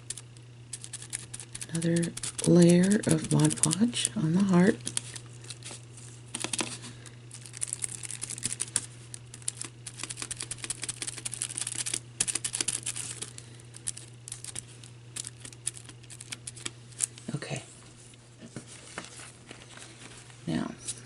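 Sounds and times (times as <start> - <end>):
low electrical hum: 0.0 - 21.0
damp tissue crinkling: 0.8 - 17.2, 18.5 - 20.5.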